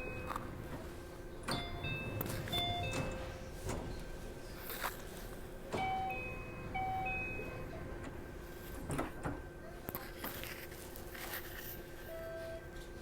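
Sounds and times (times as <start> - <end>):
train car hum: 0.0 - 13.0.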